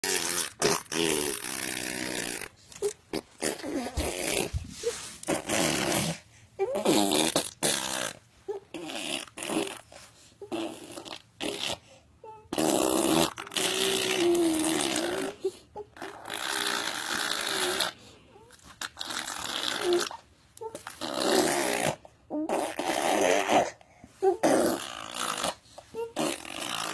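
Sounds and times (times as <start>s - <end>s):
baby making spluttering noises: 0.0s - 9.8s, 12.5s - 18.0s, 18.6s - 26.9s.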